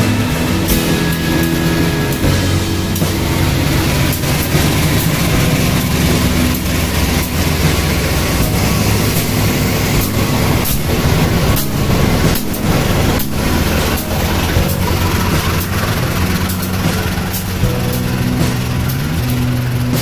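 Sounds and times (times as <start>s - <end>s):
locomotive engine humming: 0.0s - 20.0s.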